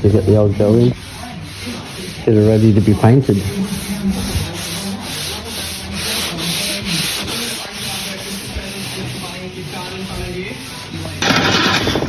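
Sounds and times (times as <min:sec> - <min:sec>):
sandpaper rasping: 0:00.0 - 0:11.8.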